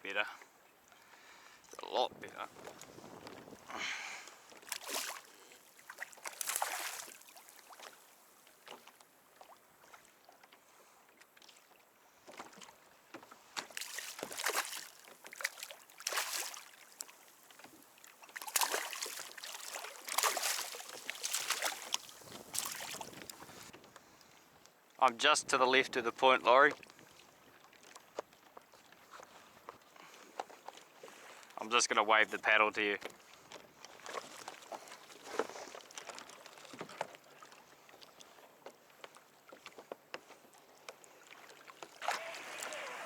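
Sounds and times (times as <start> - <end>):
quiet water wash: 0.0 - 43.0
paddle strokes splashing water: 0.4 - 24.6, 26.7 - 43.0.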